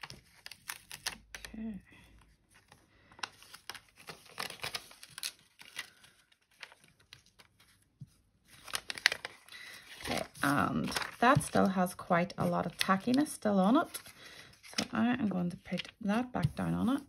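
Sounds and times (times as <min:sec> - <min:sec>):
paper rustling: 0:02.4 - 0:17.0.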